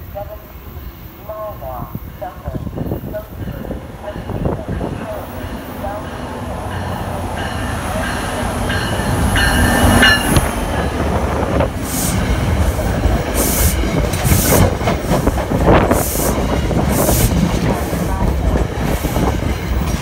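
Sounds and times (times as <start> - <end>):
locomotive passing: 0.0 - 20.0.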